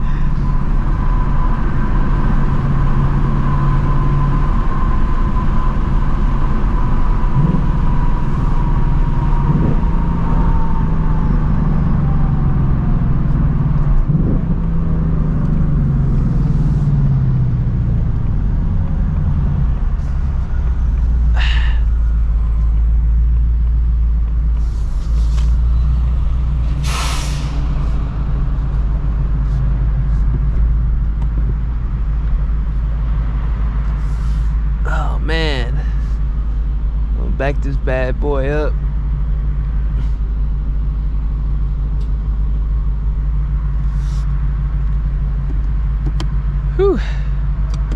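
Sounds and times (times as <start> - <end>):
car engine slowing and idling: 0.0 - 47.9.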